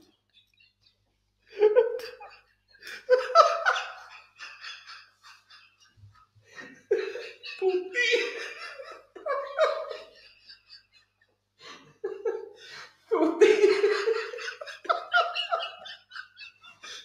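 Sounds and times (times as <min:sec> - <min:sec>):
men laughing: 0:00.0 - 0:17.0.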